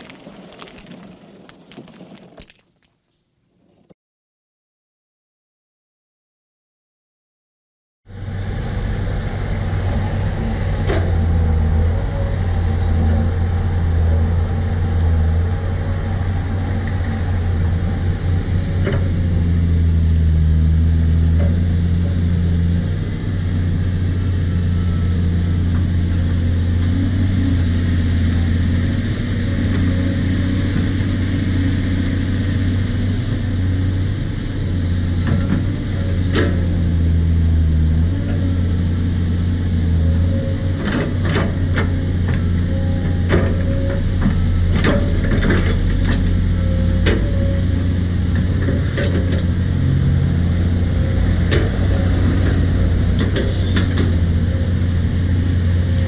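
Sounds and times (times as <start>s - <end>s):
excavator diesel engine working: 8.1s - 56.0s.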